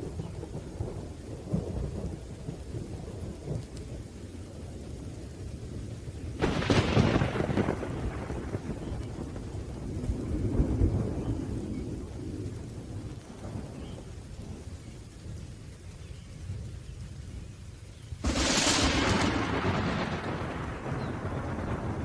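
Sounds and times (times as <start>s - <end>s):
rolling thunder: 0.0s - 16.8s, 18.2s - 22.0s
steady rain: 0.0s - 22.0s.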